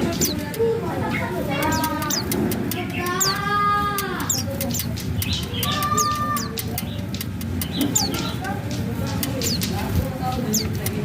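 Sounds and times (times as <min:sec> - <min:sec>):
birds chirping: 0:00.0 - 0:11.0
steady background hum: 0:00.0 - 0:11.0.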